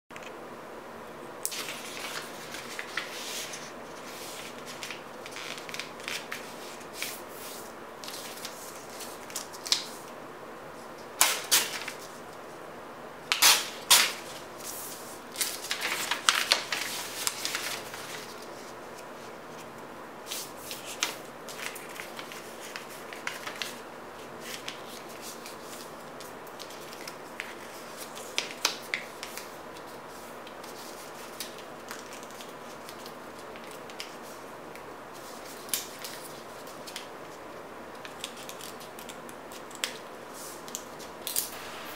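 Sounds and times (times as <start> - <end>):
paper rustling and crinkling: 1.5 - 10.1, 11.1 - 12.4, 13.3 - 34.5, 35.1 - 41.9.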